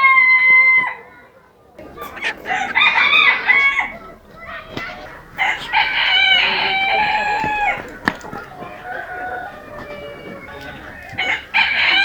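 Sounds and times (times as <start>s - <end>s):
rooster crowing: 0.0s - 1.0s, 1.8s - 12.0s.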